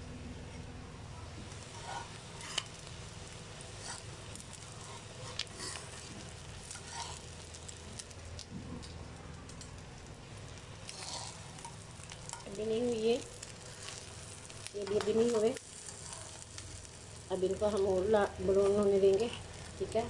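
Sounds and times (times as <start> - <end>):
hot oil sizzling and crackling: 1.3 - 20.0.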